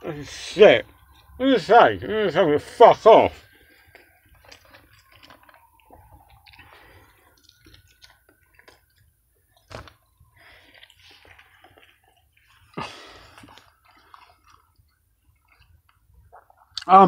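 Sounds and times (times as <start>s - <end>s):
person chewing food: 0.1s - 17.0s.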